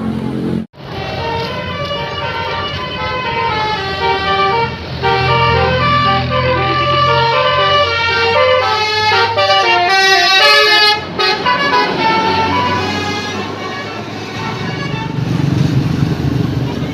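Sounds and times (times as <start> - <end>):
bus engine running: 0.0 - 16.9
road noise: 0.0 - 16.9
musical bus air horn: 0.8 - 15.4.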